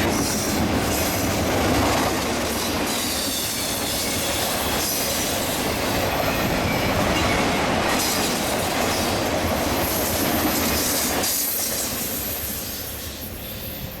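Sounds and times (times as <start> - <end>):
train wheels clattering on rails: 0.0 - 14.0.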